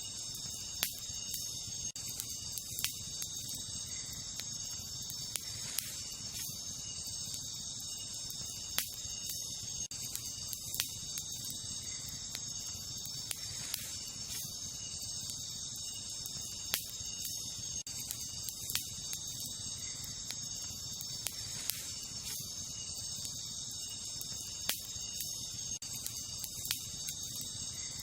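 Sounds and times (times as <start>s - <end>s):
campfire crackling and popping: 0.0s - 28.0s
night insects chirping: 0.0s - 28.0s.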